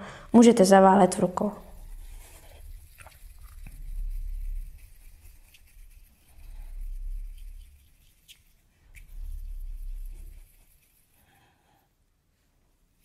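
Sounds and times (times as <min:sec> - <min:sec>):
hands rolling clay ball: 0:00.2 - 0:11.8.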